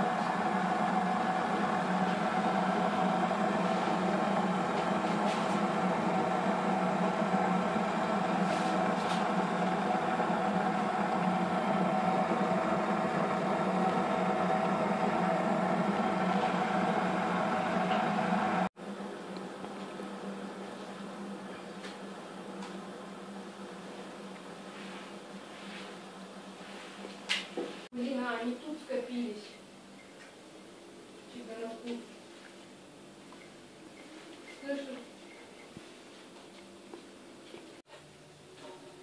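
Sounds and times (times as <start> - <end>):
mechanical hum: 0.0 - 39.0.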